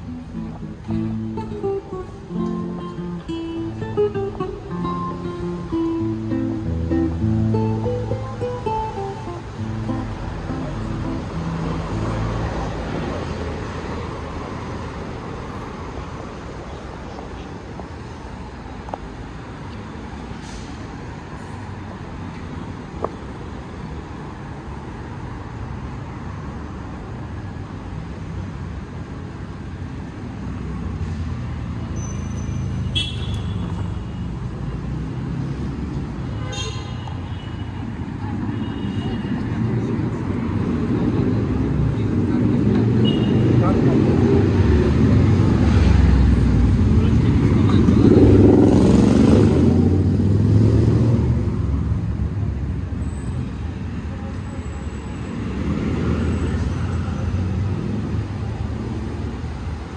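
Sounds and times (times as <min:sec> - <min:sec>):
faint voices of passers-by: 0:00.0 - 0:33.0, 0:33.6 - 0:59.9
traffic noise: 0:00.0 - 0:59.9.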